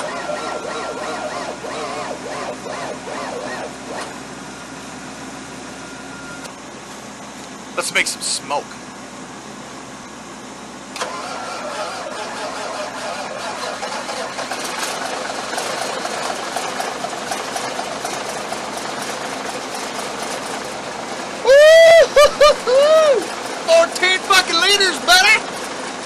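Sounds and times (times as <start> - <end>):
diesel truck engine starting: 0.0 - 26.0.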